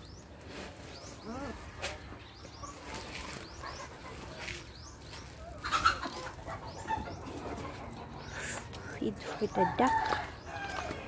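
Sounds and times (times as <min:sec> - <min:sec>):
chickens clucking: 0:00.1 - 0:11.0.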